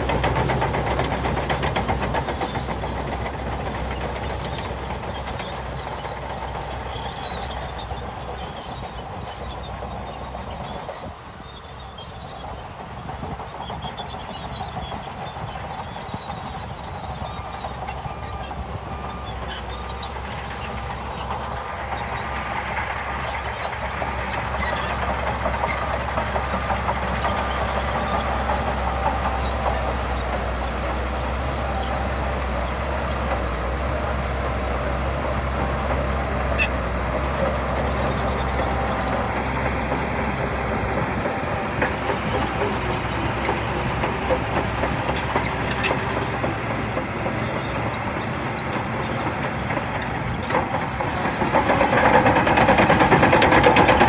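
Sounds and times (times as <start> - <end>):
heavy machinery diesel engine running: 0.0 - 54.0.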